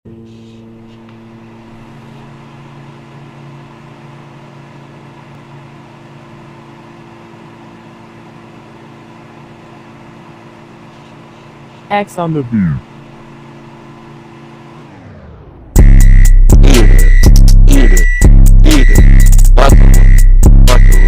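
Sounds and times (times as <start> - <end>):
microwave oven humming: 0.1 - 21.0.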